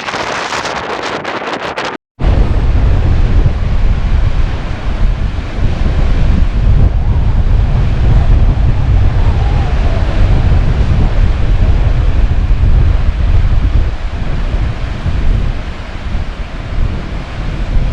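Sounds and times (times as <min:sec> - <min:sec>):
surf rushing: 0:00.0 - 0:17.9
wind buffeting microphone: 0:00.0 - 0:17.9.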